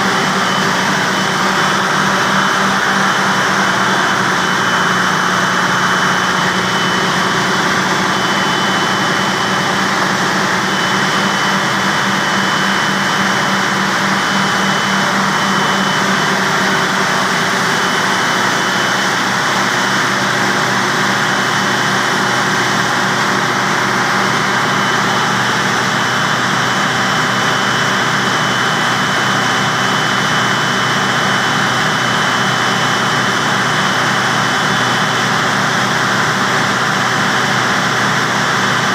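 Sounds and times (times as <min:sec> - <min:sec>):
diesel generator engine running: 0:00.0 - 0:38.9
high-pitched whine: 0:00.0 - 0:38.9.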